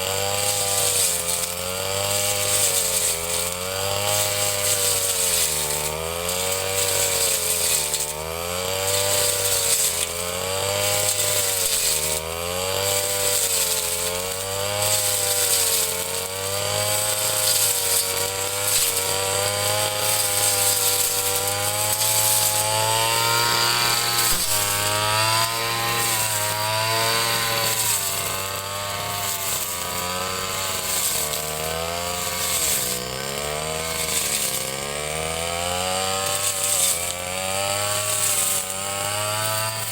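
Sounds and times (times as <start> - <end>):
brush cutter engine cutting grass: 0.0 - 39.9.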